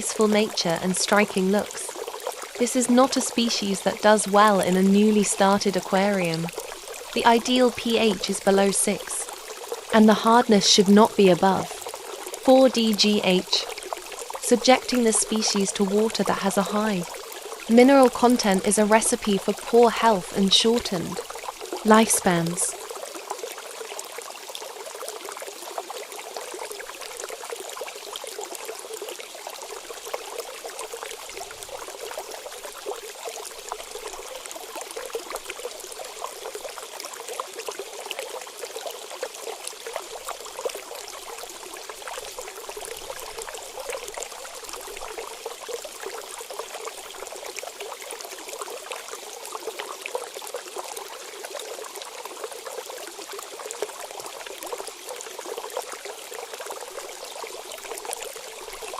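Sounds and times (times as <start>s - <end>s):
water trickling and splashing: 0.0s - 58.9s.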